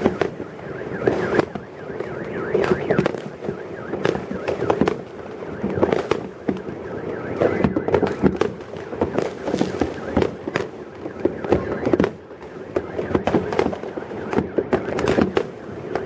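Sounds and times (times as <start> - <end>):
car alarm wailing: 0.0 - 16.0
fireworks banging: 0.0 - 16.0.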